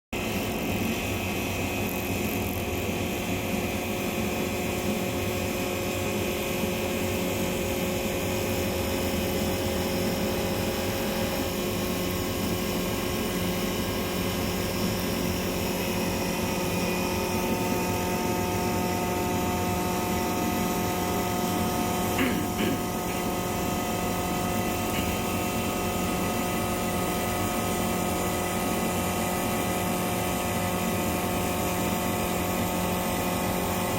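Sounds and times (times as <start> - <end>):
wood lathe motor hum and whine: 0.2 - 33.9.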